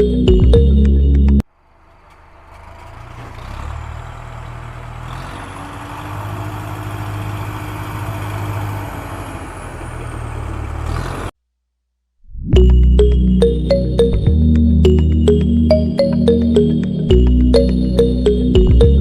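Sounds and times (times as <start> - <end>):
vehicle engine humming: 0.0 - 11.3, 12.6 - 19.0.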